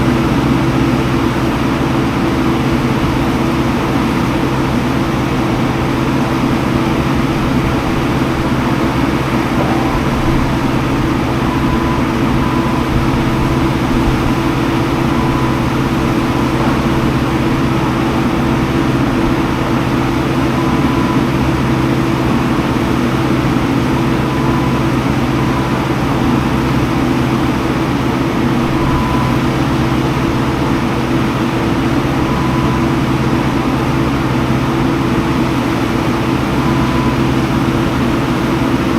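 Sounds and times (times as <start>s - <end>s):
skid steer engine under load: 0.0s - 38.9s.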